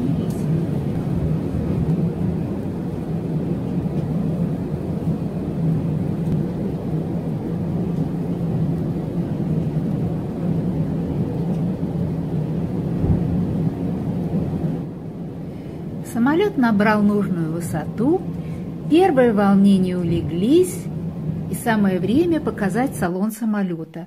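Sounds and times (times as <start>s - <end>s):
airplane cabin engine drone: 0.0s - 24.0s.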